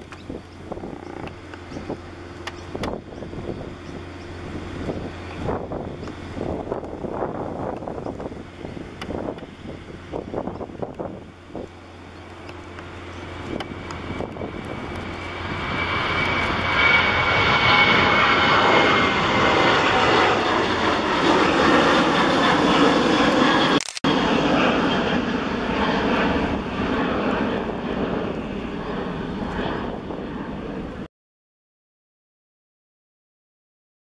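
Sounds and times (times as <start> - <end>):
jet engines taking off: 0.0 - 31.1.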